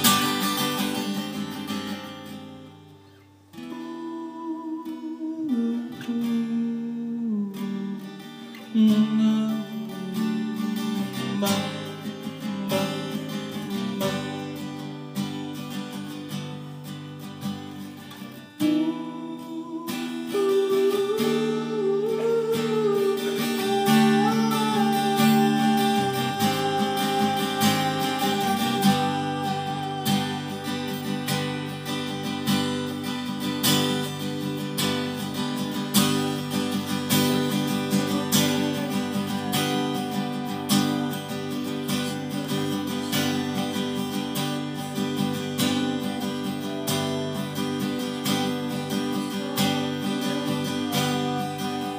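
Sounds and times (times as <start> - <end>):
acoustic guitar strumming: 0.0 - 51.9.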